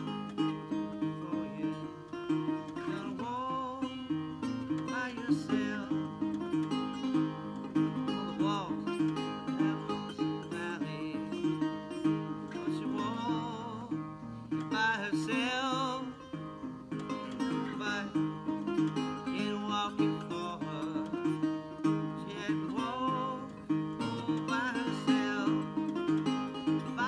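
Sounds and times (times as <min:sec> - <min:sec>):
banjo playing: 0:00.0 - 0:27.0.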